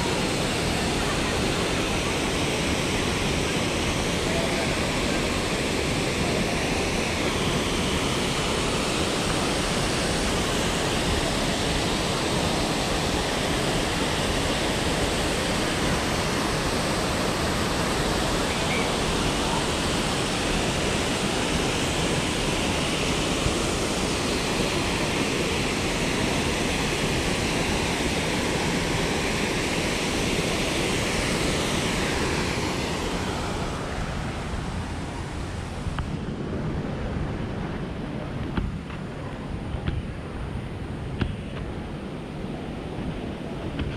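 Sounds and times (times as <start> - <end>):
waterfall rushing: 0.0 - 38.4.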